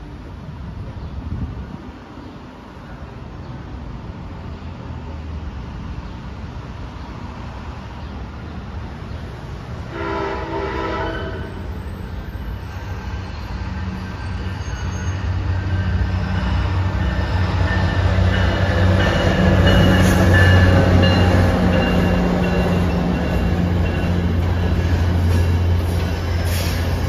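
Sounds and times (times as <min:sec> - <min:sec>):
train passing close by: 0:00.0 - 0:27.0.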